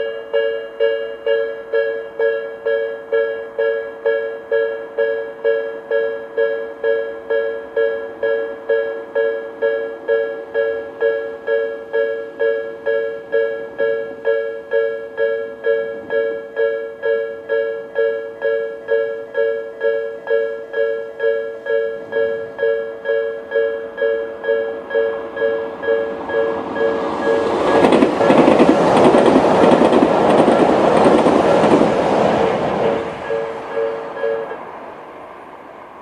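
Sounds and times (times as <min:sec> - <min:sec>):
level crossing alarm dinging: 0:00.0 - 0:30.4, 0:32.8 - 0:34.6.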